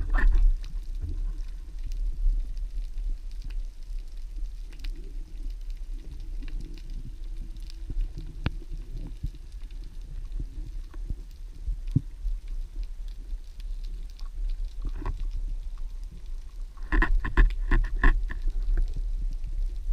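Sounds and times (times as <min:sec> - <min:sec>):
small clicks and crackles: 0:00.0 - 0:19.9
underwater low rumble: 0:00.0 - 0:19.9.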